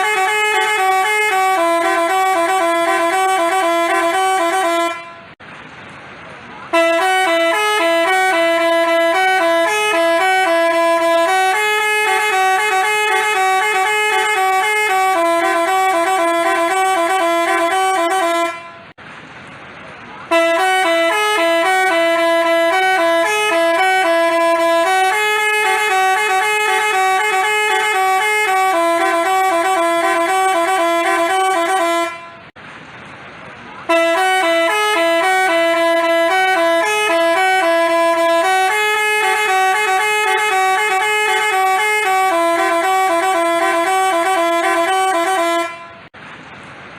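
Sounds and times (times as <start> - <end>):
bus horn playing tune: 0.0 - 5.4, 6.7 - 19.0, 20.2 - 32.6, 33.8 - 46.2.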